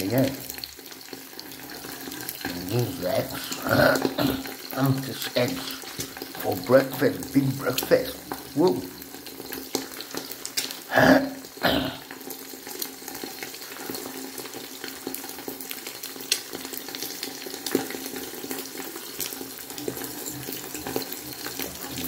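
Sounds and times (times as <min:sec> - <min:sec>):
eggs sizzling in a pan: 0:00.0 - 0:22.0.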